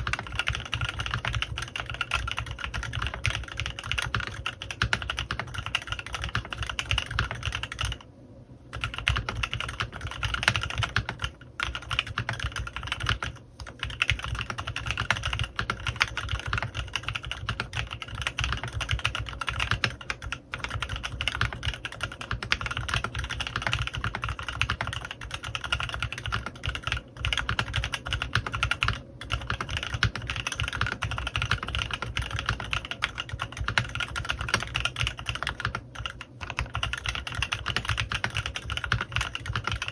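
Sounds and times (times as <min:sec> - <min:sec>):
typing on mechanical keyboard: 0:00.0 - 0:08.0, 0:08.7 - 0:39.9.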